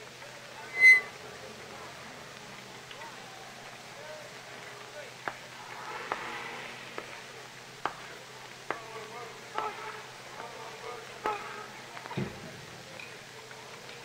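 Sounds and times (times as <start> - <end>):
faint murmur of voices: 0.0 - 14.0.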